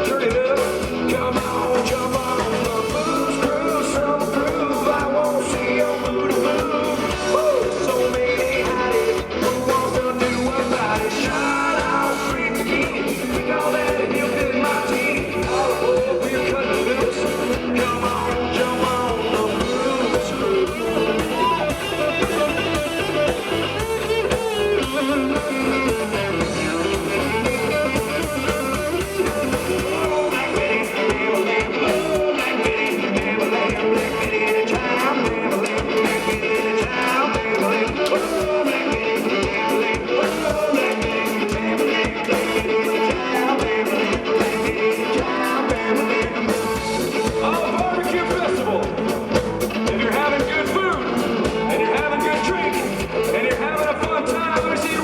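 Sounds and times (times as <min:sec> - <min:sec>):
blues-rock band playing: 0:00.0 - 0:55.0.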